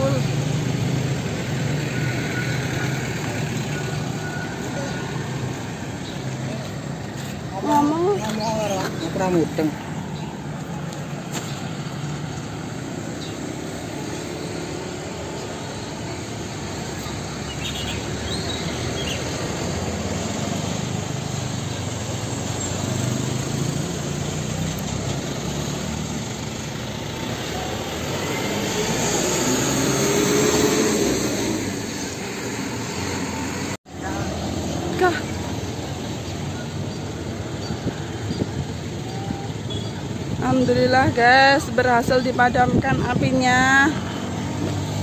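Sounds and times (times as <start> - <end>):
cars passing: 0.0 - 45.0
motorcycles passing: 0.0 - 45.0.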